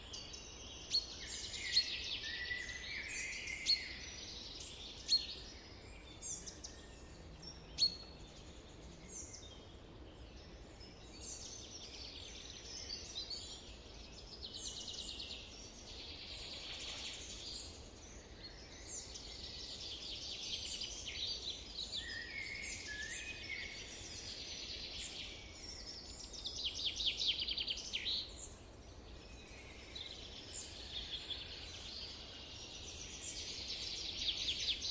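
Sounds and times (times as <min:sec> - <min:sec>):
birds singing: 0:00.0 - 0:34.9
faint background hiss: 0:00.0 - 0:34.9.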